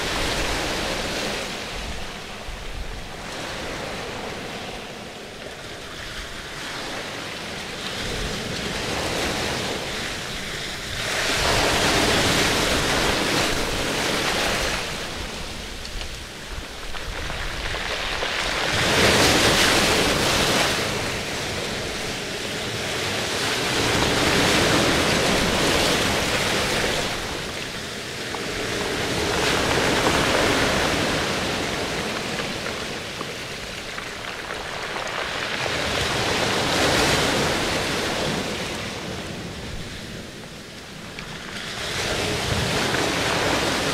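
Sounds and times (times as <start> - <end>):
ocean waves washing: 0.0 - 43.9.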